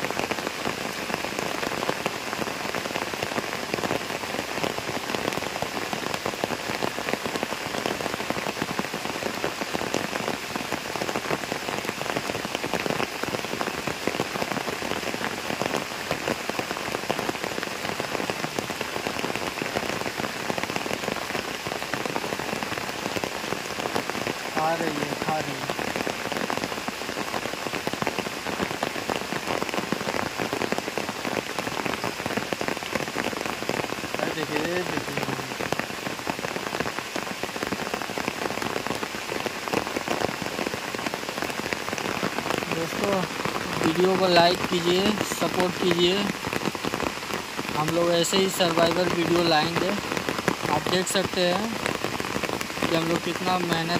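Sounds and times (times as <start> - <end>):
rain falling on water: 0.0 - 53.9.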